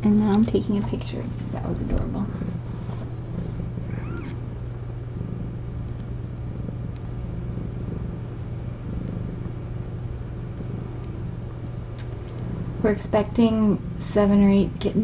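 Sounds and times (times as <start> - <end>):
low rumbling hum: 0.0 - 15.0.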